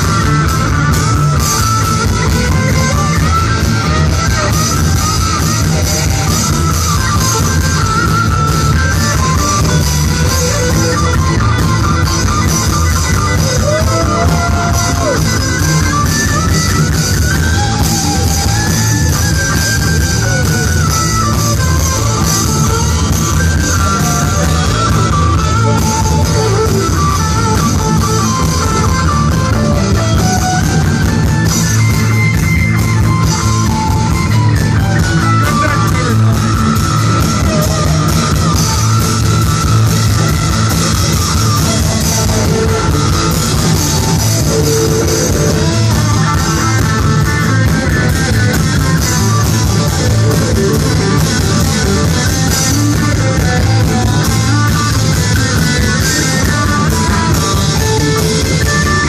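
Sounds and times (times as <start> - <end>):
guitar line carrying the tune: 0.0 - 59.0
rock band playing: 0.0 - 59.0.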